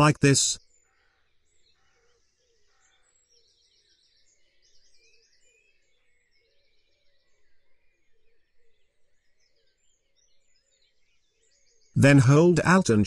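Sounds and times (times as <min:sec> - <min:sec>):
faint bird chirps: 0:00.0 - 0:12.6.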